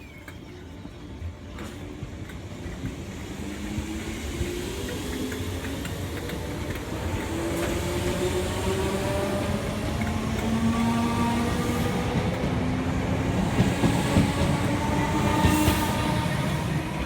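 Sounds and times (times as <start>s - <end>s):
train running gear rumble: 0.1s - 17.0s.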